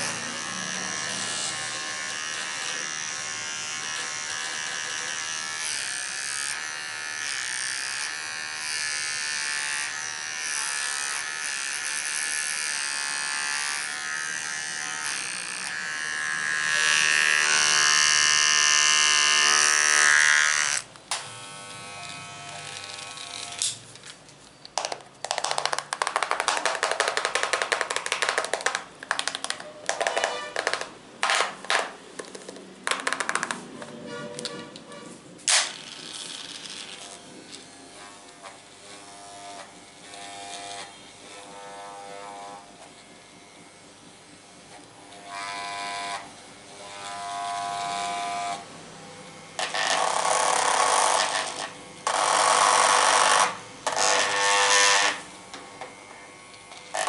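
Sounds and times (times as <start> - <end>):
electric shaver buzzing: 0.0 - 23.8, 25.4 - 31.9, 35.4 - 57.0.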